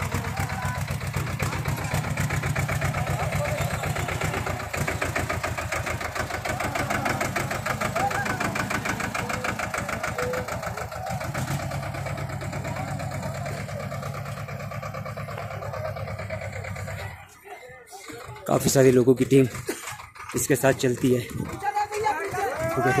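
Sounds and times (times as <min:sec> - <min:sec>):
diesel tractor engine knocking: 0:00.0 - 0:23.0.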